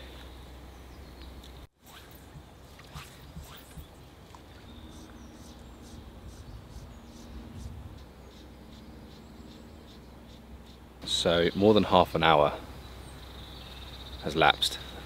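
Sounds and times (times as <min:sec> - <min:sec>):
low steady rumble: 0:00.0 - 0:14.2
small birds chirping: 0:00.0 - 0:15.0.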